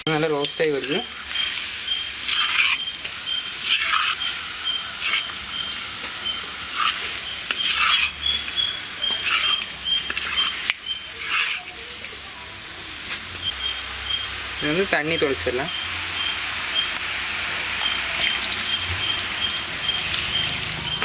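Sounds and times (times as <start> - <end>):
chicken sizzling in a pan: 0.0 - 21.0
spatula scraping a pan: 0.1 - 21.0.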